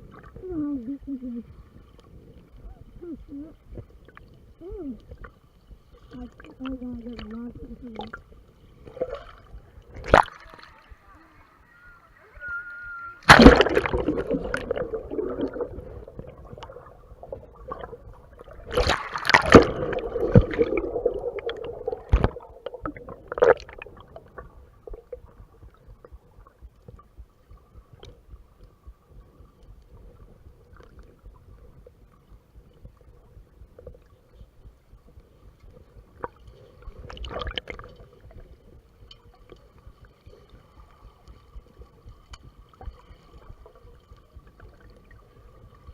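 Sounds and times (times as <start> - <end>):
muffled water splashing: 0.0 - 45.9.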